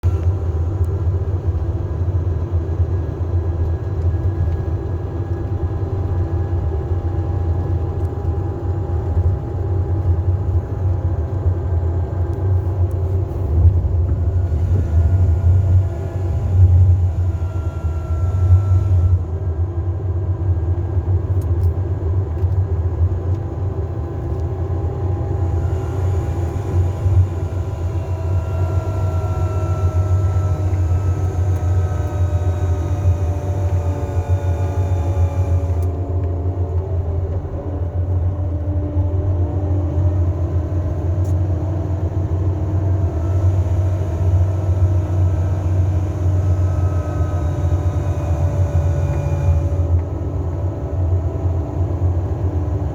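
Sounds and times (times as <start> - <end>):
faint whining tones sliding in pitch: 0.0 - 19.5, 24.3 - 52.9
coach engine low drone: 0.0 - 52.9.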